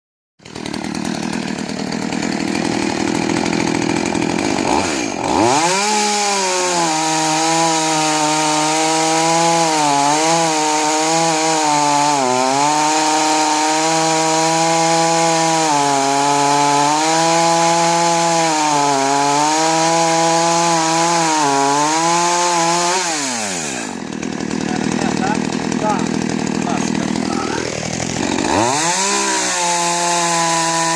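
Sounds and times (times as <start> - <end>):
chainsaw revving: 0.4 - 30.9.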